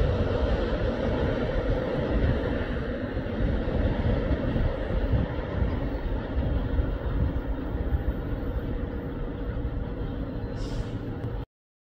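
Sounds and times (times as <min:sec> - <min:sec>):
train wheels rumbling on rail: 0:00.0 - 0:11.4.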